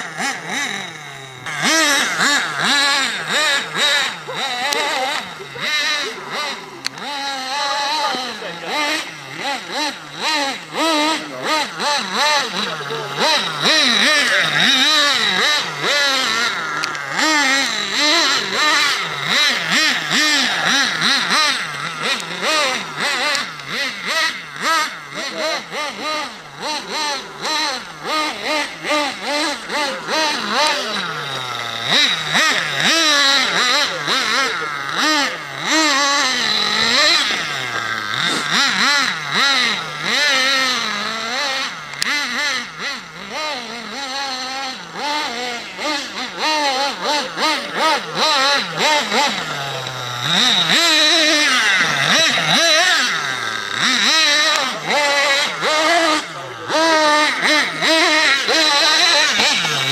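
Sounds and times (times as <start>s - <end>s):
small nitro engine revving: 0.0s - 59.9s.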